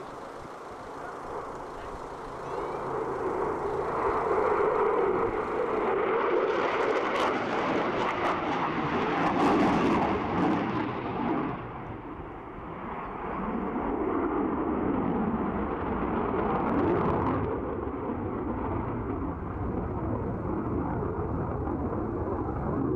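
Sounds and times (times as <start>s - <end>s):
jet aircraft flying past: 0.0s - 22.9s.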